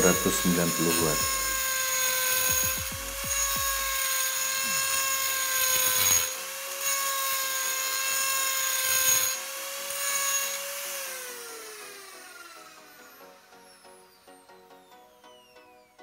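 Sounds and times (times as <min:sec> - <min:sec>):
burr grinding metal: 0:00.0 - 0:14.2
die grinder whining: 0:00.0 - 0:16.0.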